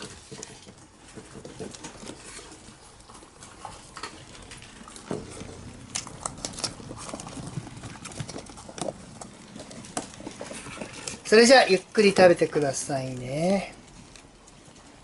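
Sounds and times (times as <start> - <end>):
hamsters scrabbling: 0.0 - 15.0.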